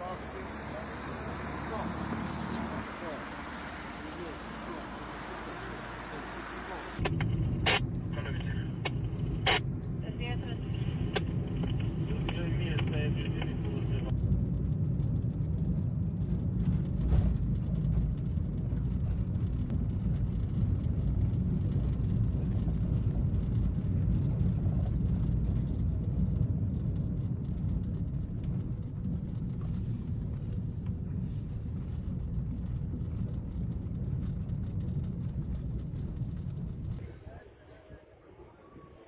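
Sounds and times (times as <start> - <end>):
vehicle driving rumble: 0.0 - 39.0.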